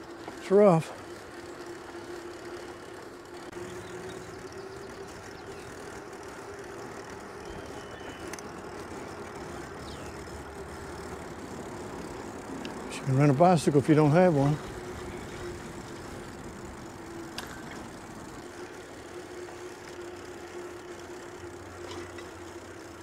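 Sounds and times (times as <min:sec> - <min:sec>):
bike tyres on rough asphalt: 0:00.0 - 0:23.0
constant low hum: 0:00.0 - 0:23.0.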